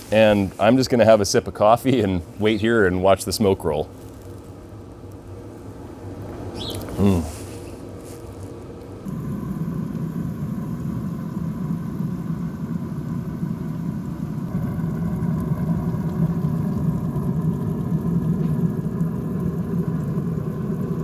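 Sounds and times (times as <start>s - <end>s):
faint steady whine: 0.0s - 21.0s
grill fan humming: 0.0s - 21.0s.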